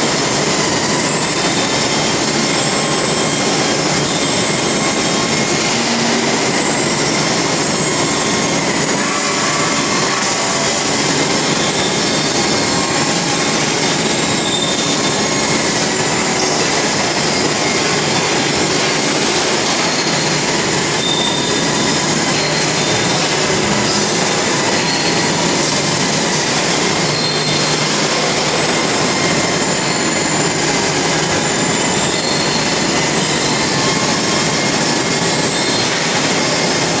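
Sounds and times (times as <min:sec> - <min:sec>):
high squealing tones: 0:00.1 - 0:36.9.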